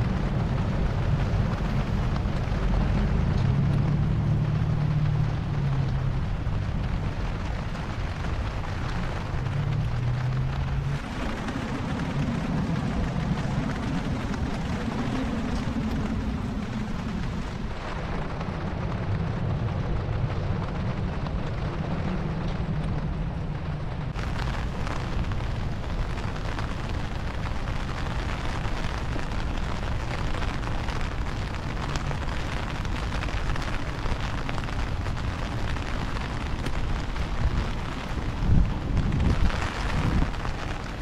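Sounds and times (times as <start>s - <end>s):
low rumble: 0.0s - 41.0s
rain on wet pavement: 0.0s - 41.0s.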